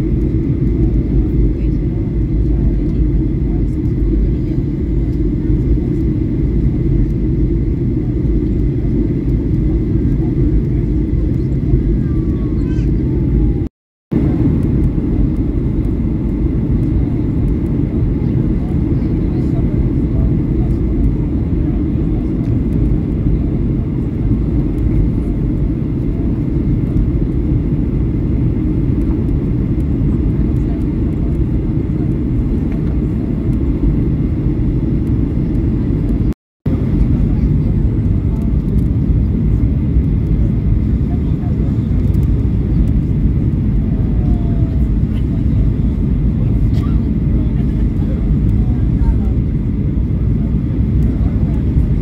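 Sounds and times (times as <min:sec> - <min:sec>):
aircraft cabin engine roar: 0:00.0 - 0:52.0.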